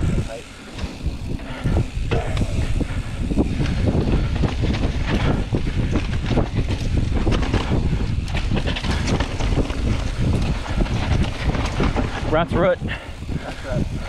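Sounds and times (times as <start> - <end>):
bike clattering over bumps: 0.0 - 14.0
tyres running through dirt and leaves: 0.0 - 14.0
wind buffeting microphone: 0.0 - 14.0.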